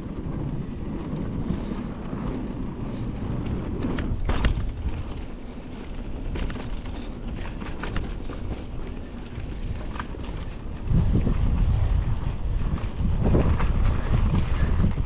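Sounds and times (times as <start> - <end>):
bike rattles and clicks: 0.0 - 15.0
tyres rumbling over dirt: 0.0 - 15.0
wind buffeting microphone: 0.0 - 15.0.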